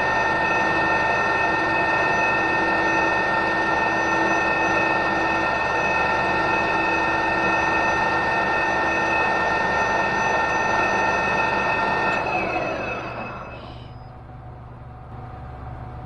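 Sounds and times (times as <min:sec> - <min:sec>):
metal lathe whining: 0:00.0 - 0:14.2.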